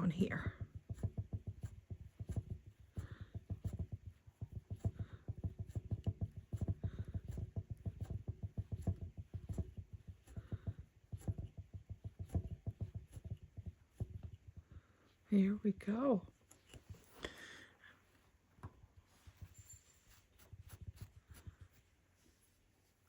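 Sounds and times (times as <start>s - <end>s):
rug hook soft low taps: 0.0s - 17.4s, 18.5s - 19.7s
wool rasping through cloth: 0.0s - 17.7s, 19.0s - 23.0s.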